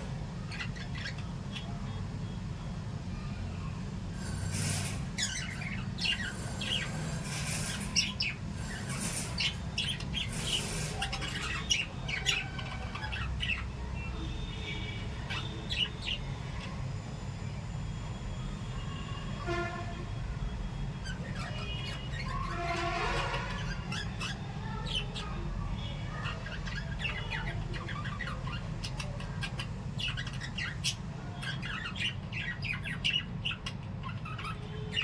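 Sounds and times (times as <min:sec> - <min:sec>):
parrots chirping and squawking: 0:00.0 - 0:02.0, 0:04.1 - 0:17.6, 0:20.9 - 0:35.0.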